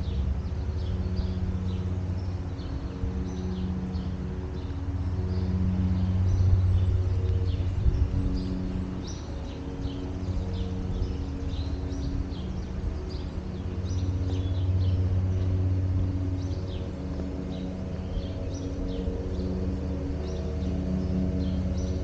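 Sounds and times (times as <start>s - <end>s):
low mechanical hum: 0.0s - 22.0s
songbirds chirping: 0.0s - 22.0s.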